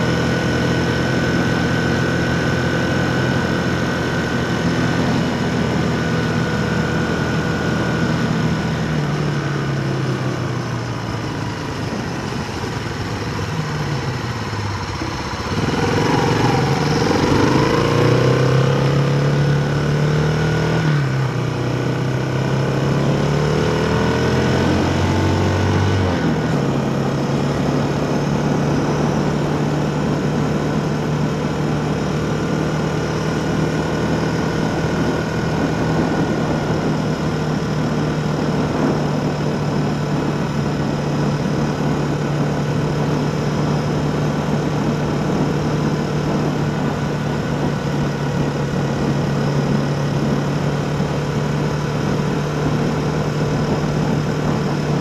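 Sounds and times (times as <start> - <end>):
vehicle engine accelerating: 0.0 - 55.0
wind and road noise: 0.0 - 55.0.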